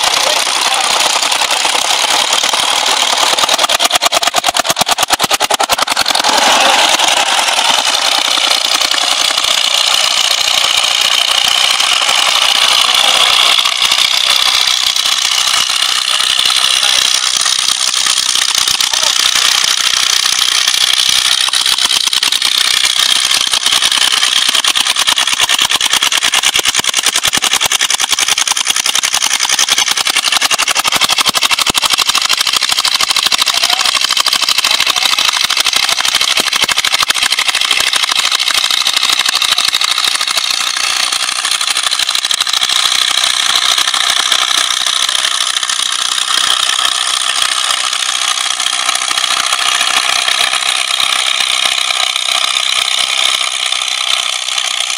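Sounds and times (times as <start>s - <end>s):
tractor engine under load: 0.0s - 54.9s.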